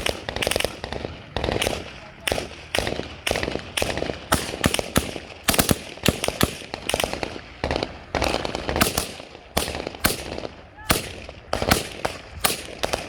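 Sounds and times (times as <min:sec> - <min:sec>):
gunshots echoing: 0:00.0 - 0:13.0.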